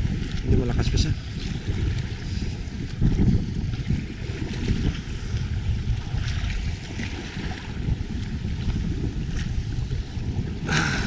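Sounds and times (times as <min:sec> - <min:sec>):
waves splashing against boat hull: 0:00.0 - 0:11.0
wind buffeting microphone: 0:00.0 - 0:11.0.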